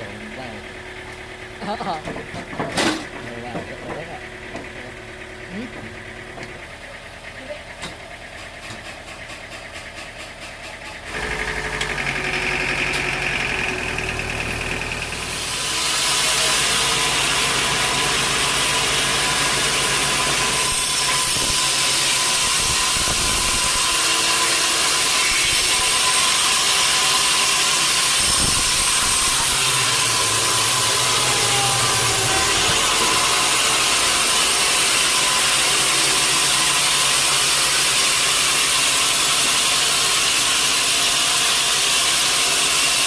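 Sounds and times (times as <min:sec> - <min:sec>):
motor running: 0:00.0 - 0:43.0
saw blade cutting log with whine: 0:00.0 - 0:43.0.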